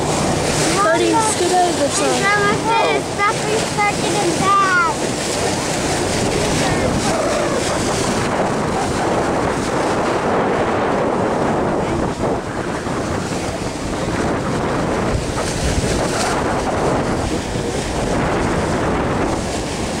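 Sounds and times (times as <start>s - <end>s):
choppy water rushing and splashing: 0.0s - 20.0s
wind buffeting microphone: 0.0s - 20.0s.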